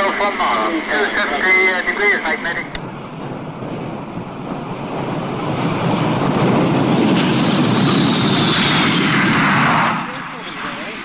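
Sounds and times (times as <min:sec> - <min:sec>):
high engine whine: 0:00.0 - 0:11.0
jet aircraft engine noise: 0:00.0 - 0:11.0.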